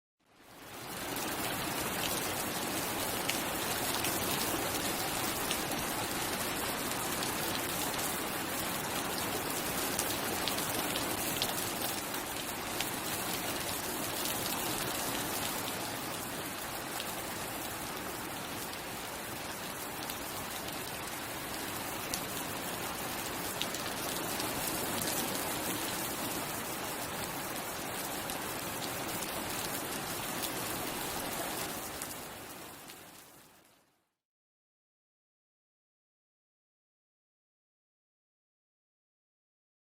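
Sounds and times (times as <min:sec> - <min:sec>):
steady rainfall hiss: 0:00.3 - 0:33.6.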